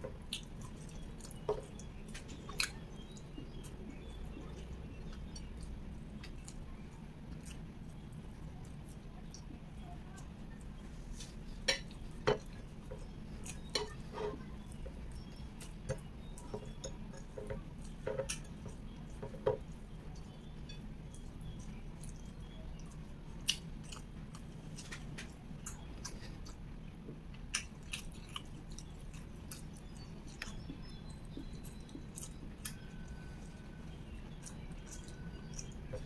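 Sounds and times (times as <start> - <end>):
person chewing: 0.0 - 9.6, 10.2 - 36.0.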